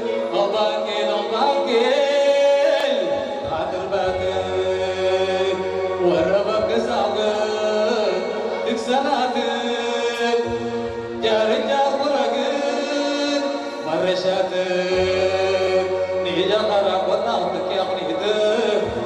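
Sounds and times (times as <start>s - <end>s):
man singing into microphone: 0.0s - 19.0s.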